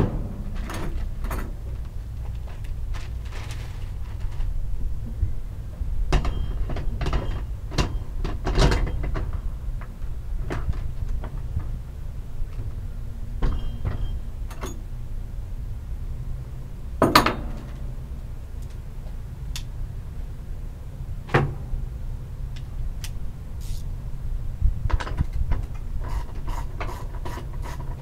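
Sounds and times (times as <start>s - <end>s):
steady low rumble: 0.0s - 13.4s, 14.2s - 26.0s.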